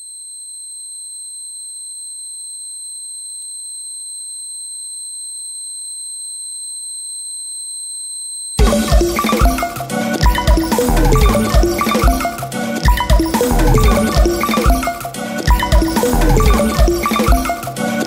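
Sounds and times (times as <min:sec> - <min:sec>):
high-pitched sine tone: 0:00.0 - 0:17.8.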